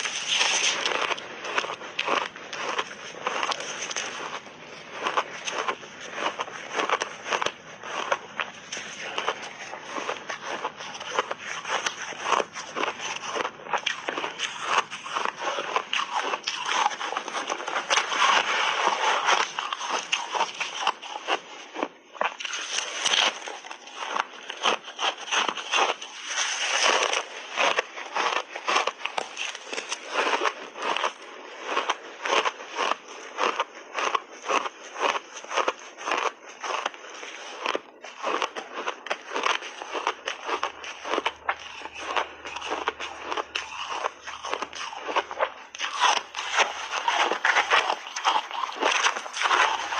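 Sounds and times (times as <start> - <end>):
ice crunching between teeth: 0.0 - 49.9.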